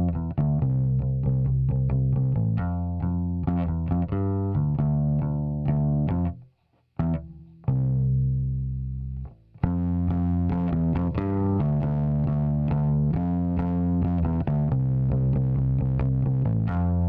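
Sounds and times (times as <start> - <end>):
electric bass plucked notes: 0.0 - 6.4, 7.0 - 17.0.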